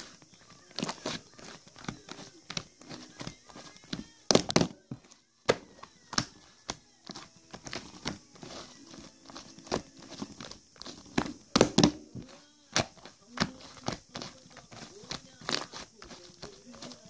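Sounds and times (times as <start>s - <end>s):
faint rustling: 0.0s - 17.0s.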